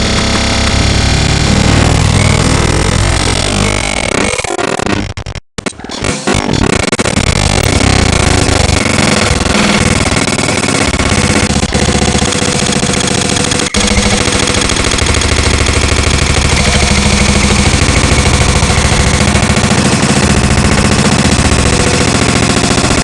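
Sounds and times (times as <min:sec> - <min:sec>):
dense buzzing synthesizer notes: 0:00.0 - 0:05.3, 0:05.9 - 0:23.0.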